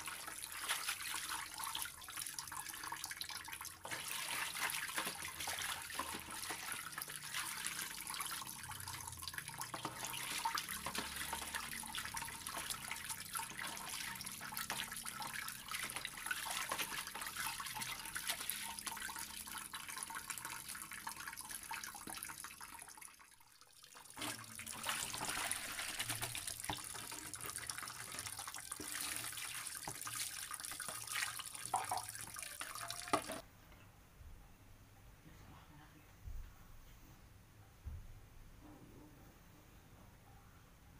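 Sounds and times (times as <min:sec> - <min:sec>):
tap water pouring into a tub: 0:00.0 - 0:33.4.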